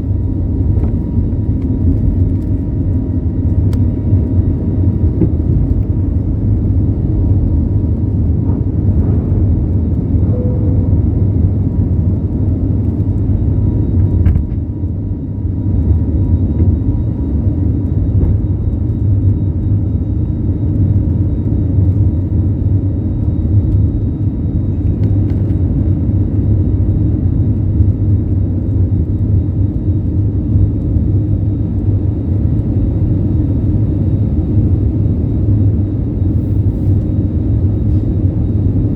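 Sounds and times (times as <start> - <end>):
jet engine rumble in cabin: 0.0 - 38.9.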